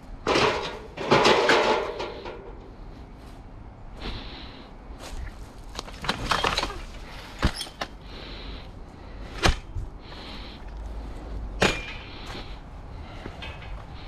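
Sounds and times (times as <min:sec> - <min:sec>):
steady low rumble and hiss: 0:00.0 - 0:14.0.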